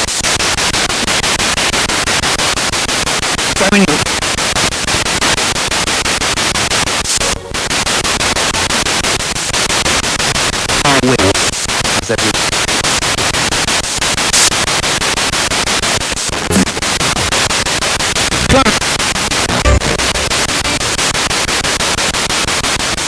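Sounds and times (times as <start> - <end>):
radio static with fast ticking: 0.0 - 23.0.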